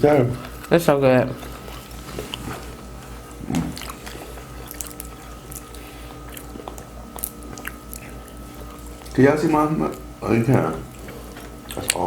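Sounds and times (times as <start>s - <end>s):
faint steady hum: 0.0s - 12.0s
person chewing wetly: 0.4s - 12.0s.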